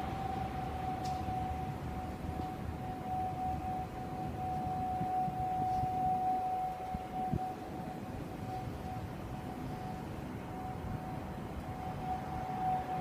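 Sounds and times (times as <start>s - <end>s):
steady tone: 0.0s - 13.0s.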